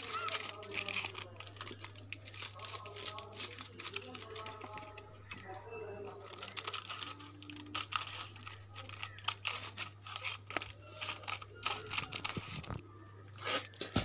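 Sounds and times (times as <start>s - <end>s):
foil crinkling: 0.0s - 14.0s
scissors snipping foil: 0.0s - 14.0s.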